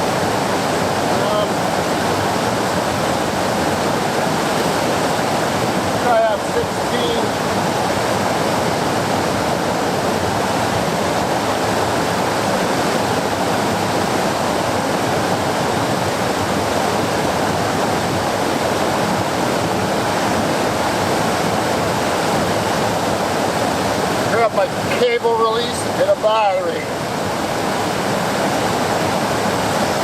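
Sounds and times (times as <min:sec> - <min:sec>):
river rapids rushing: 0:00.0 - 0:30.0.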